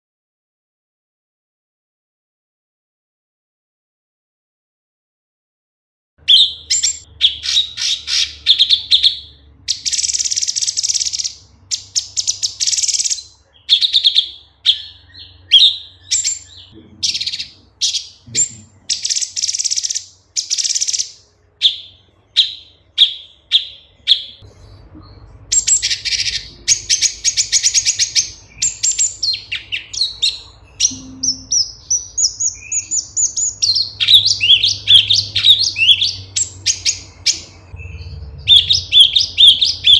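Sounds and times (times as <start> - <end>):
bird singing: 6.2 - 39.9.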